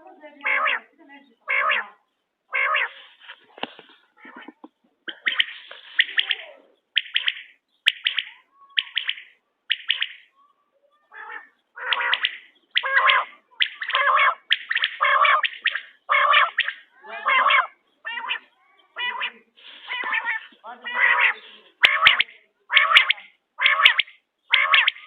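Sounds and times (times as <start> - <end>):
quail calling: 0.4 - 10.4, 11.0 - 25.0.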